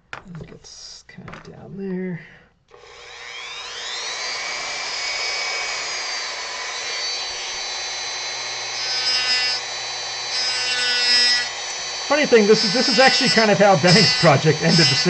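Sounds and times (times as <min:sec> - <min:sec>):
rotary tool grinding wood: 0:02.7 - 0:15.0.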